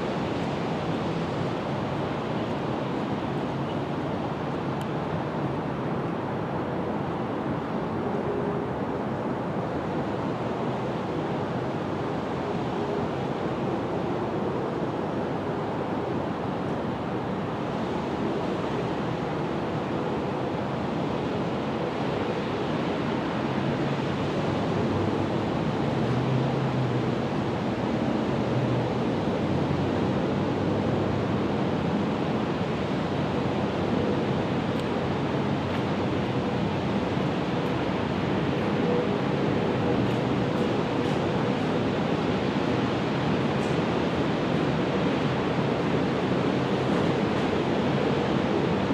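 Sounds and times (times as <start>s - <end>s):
steady rushing noise: 0.0s - 48.9s.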